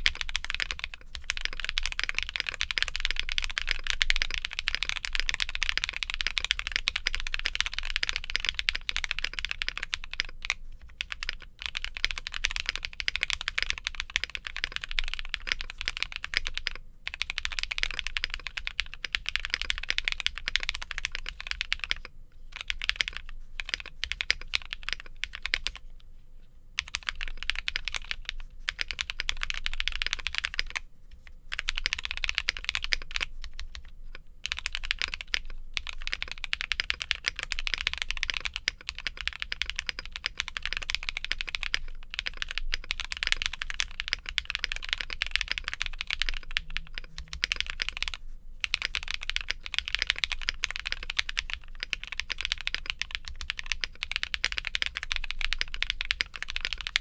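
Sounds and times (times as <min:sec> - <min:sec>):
fast mechanical keyboard typing: 0:00.0 - 0:25.8, 0:26.8 - 0:30.8, 0:31.5 - 0:57.0.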